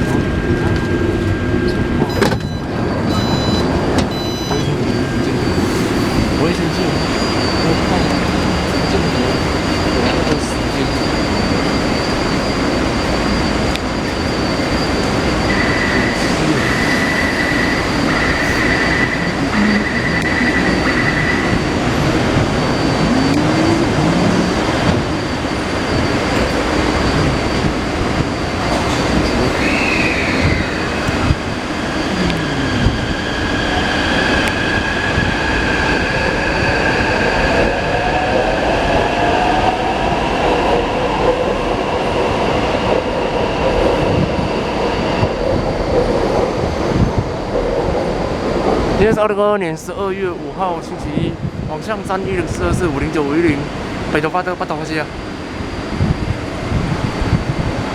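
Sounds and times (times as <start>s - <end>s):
train whine rising in pitch: 0.0s - 49.2s
train rumbling on track: 0.0s - 57.9s.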